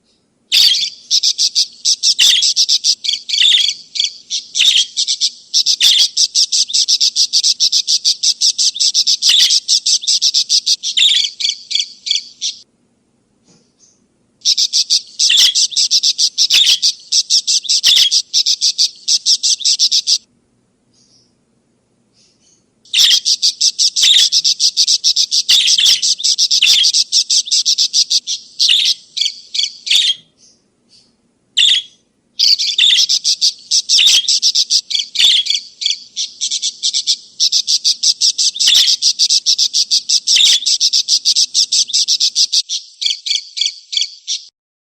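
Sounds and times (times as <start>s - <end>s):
budgerigar chattering: 0.5s - 12.6s, 14.4s - 20.2s, 22.2s - 30.3s, 31.6s - 44.5s.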